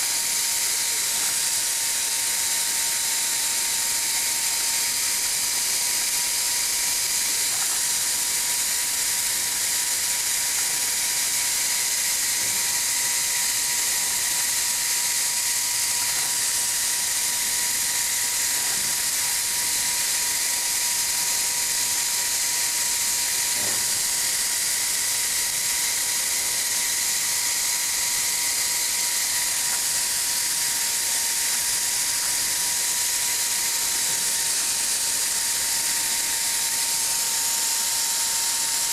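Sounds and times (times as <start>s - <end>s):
hot air blower hiss: 0.0s - 38.9s
thin steady whine: 0.0s - 38.9s.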